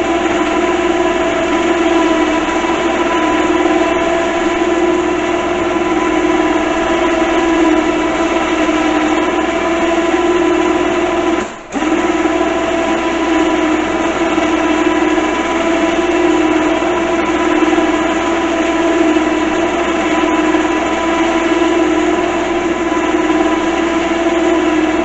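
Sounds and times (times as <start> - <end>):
held whining tone: 0.0 - 25.0
utility vehicle engine running: 0.0 - 25.0.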